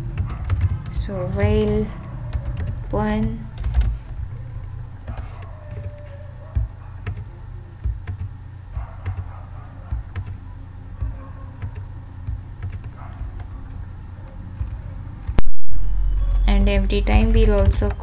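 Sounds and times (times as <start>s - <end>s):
keystrokes on computer keyboard: 0.0s - 4.2s, 5.0s - 15.5s, 16.1s - 18.0s
low steady hum: 0.0s - 18.0s.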